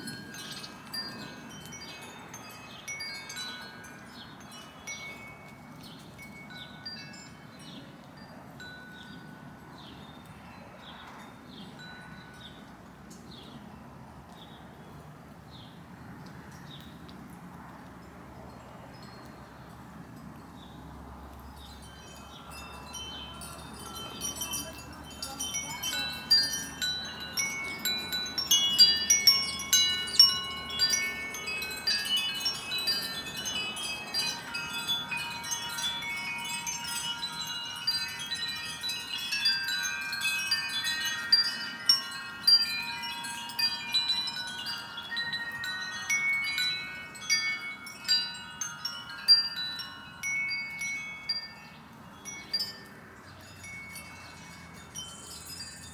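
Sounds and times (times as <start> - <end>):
wind chime ringing: 0.0 - 12.7, 21.4 - 55.9.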